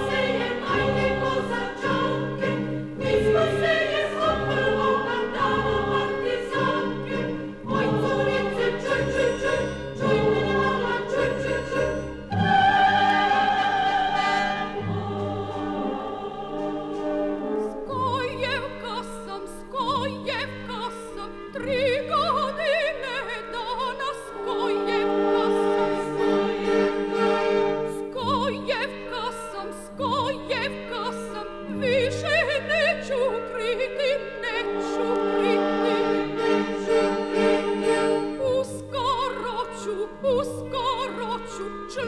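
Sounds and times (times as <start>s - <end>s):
orchestral melody with vibrato: 0.0s - 42.0s.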